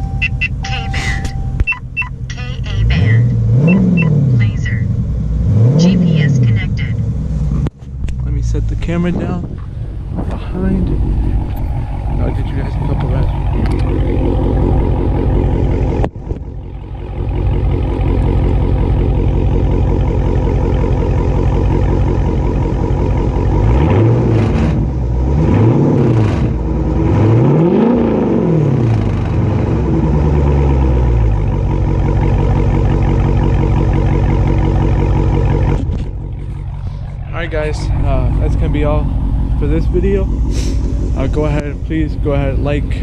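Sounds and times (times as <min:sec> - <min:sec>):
car engine idling: 0:00.0 - 0:43.0
car engine revving: 0:00.0 - 0:43.0.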